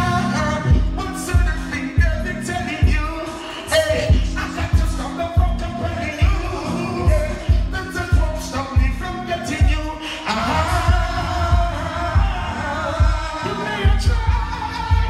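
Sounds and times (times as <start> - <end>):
man singing into microphone: 0.0 - 15.0
reggae backing track with heavy bass: 0.0 - 15.0.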